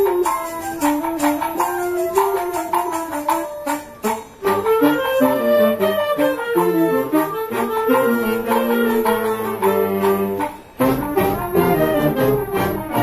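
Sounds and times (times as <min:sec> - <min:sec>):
wind band playing: 0:00.0 - 0:13.0.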